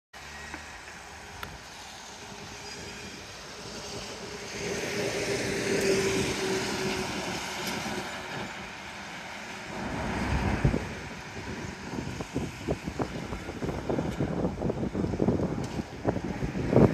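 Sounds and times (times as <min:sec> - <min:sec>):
heavy truck driving by: 0:00.2 - 0:14.5
cars driving by: 0:00.2 - 0:16.9.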